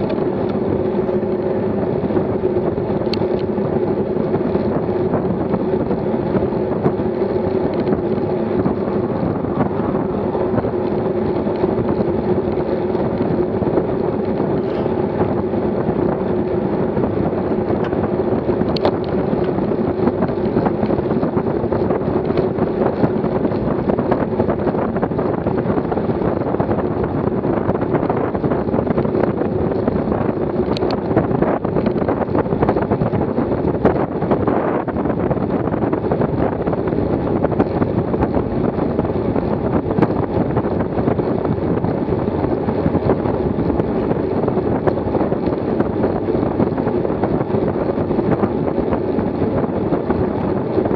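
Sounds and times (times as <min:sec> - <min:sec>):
bicycle road noise: 0:00.0 - 0:50.9
wind rushing on microphone: 0:00.0 - 0:50.9.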